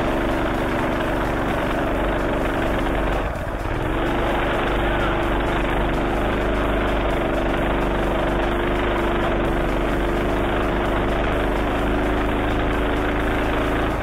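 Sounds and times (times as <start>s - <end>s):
minibike engine running: 0.0s - 14.0s.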